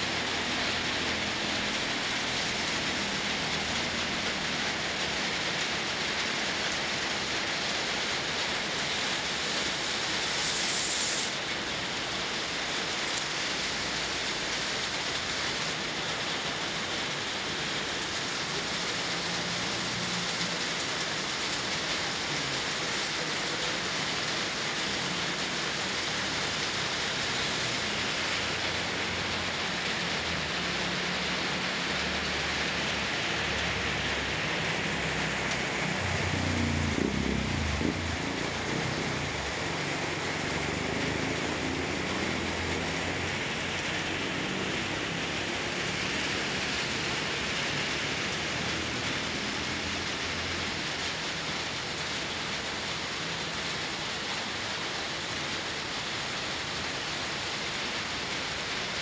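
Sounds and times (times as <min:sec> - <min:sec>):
heavy rain pouring: 0:00.0 - 0:59.0
low rumble of vehicle engines: 0:00.0 - 0:59.0.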